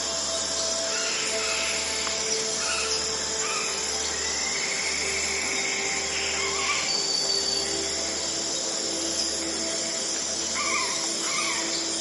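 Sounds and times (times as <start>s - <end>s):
insects calling: 0.0s - 12.0s
birds chirping: 0.6s - 12.0s.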